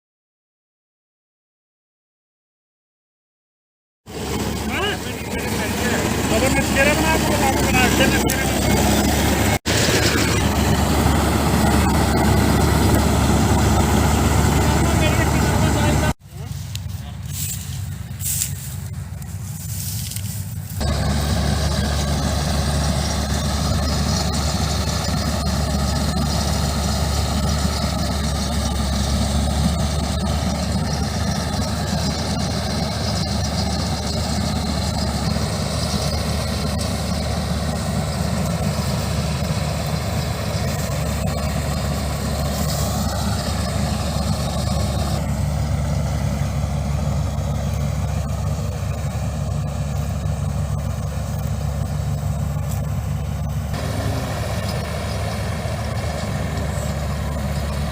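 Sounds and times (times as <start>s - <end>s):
combine harvester engine drone: 4.1s - 57.9s
machine noise: 4.1s - 57.9s.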